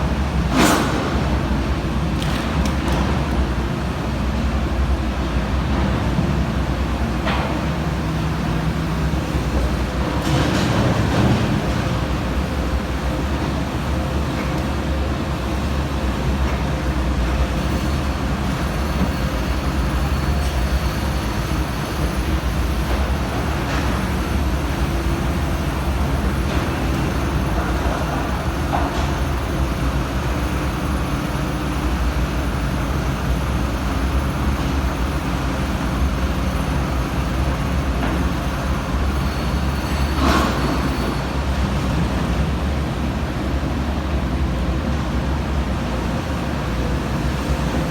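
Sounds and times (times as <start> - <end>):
excavator diesel engine running: 3.0 - 47.9.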